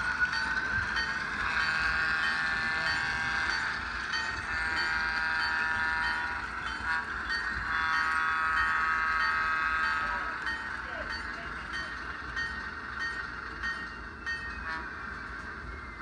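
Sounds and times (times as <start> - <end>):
locomotive bell ringing: 0.0 - 16.0
model locomotive engine sound: 0.0 - 16.0.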